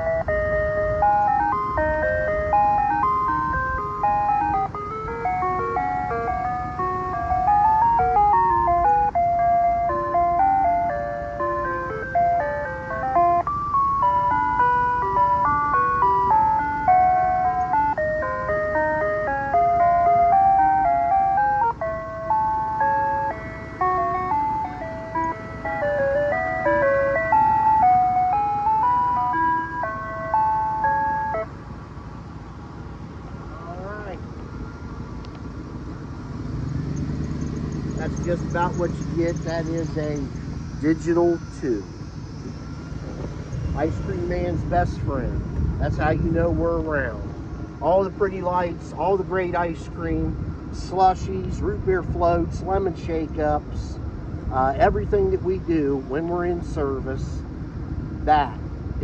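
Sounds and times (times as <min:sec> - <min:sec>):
ice cream truck chime melody: 0:00.0 - 0:59.0.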